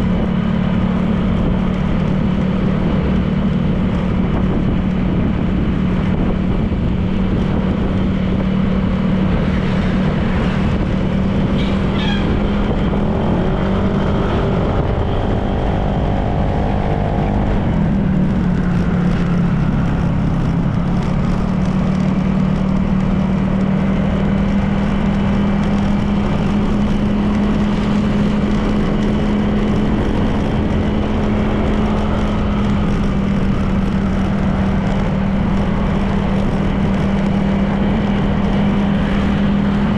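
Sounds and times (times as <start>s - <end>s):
road and wind noise: 0.0s - 39.9s
scooter engine cruising: 0.0s - 39.9s.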